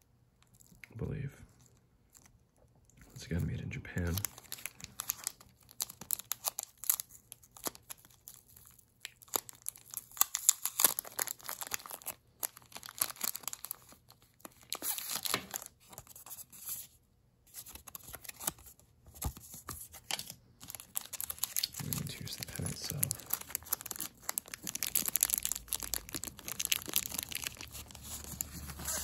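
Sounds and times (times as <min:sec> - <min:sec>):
plastic packaging crinkling: 0:03.2 - 0:16.9, 0:17.5 - 0:29.0.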